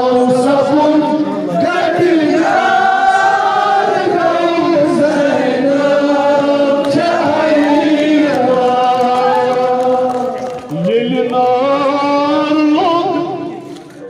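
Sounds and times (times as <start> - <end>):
men chanting a lament: 0.0 - 13.7.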